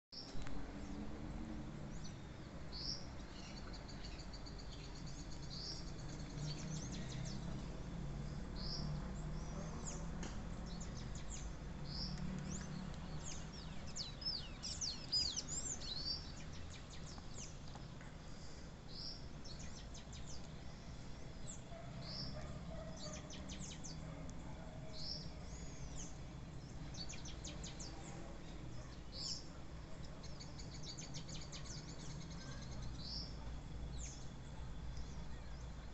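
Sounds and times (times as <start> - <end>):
birds chirping: 0.2 - 35.9.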